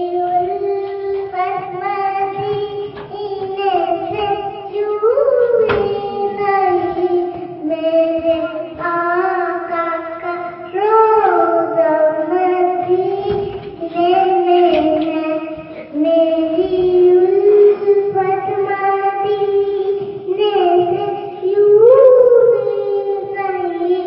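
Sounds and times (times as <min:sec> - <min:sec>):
girl singing unaccompanied: 0:00.0 - 0:24.0.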